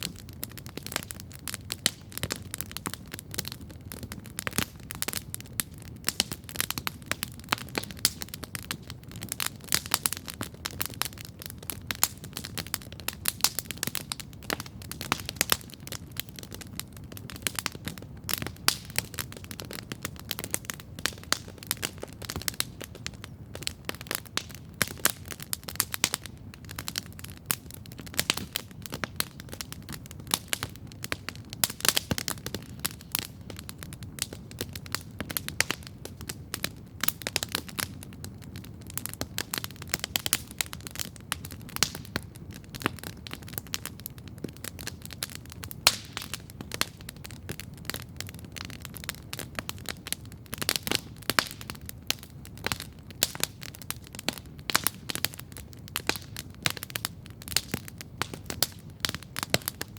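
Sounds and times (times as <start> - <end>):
campfire crackling: 0.0 - 59.9
fire popping and snapping: 0.0 - 59.9.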